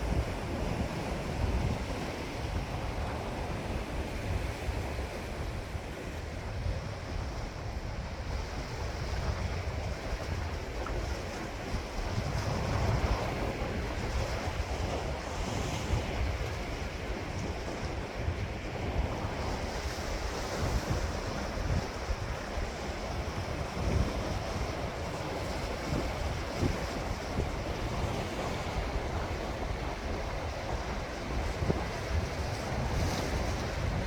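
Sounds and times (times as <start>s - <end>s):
sea waves washing ashore: 0.0s - 34.0s
wind buffeting microphone: 0.0s - 34.0s.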